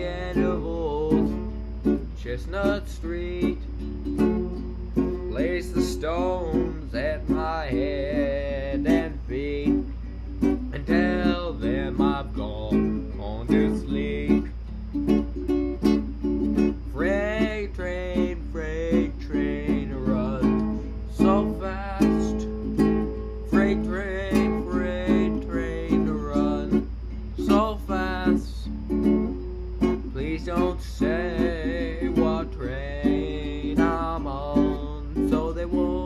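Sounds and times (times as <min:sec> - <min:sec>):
fingerpicked ukulele: 0:00.0 - 0:36.0.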